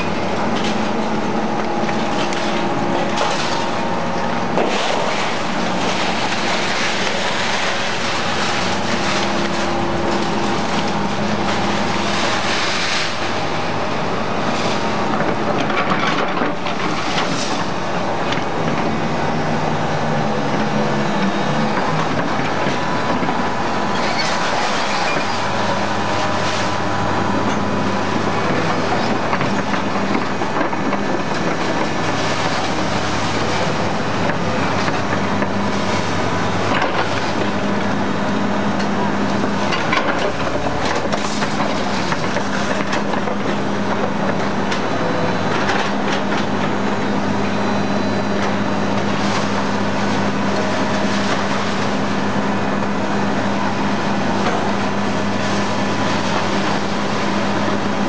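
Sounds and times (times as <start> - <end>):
dense mechanical noise: 0.0 - 58.0
machine hum: 0.0 - 58.0.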